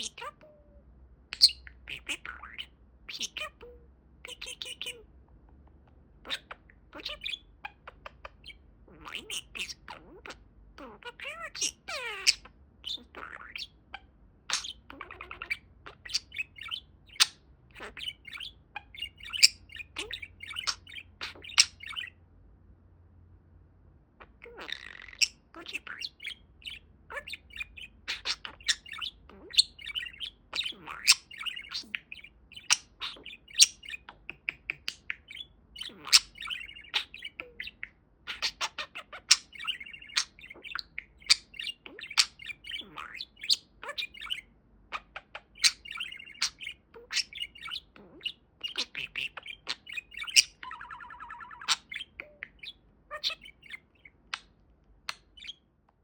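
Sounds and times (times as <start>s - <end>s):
budgerigar warbling and chattering: 0.0s - 22.2s, 24.2s - 55.7s.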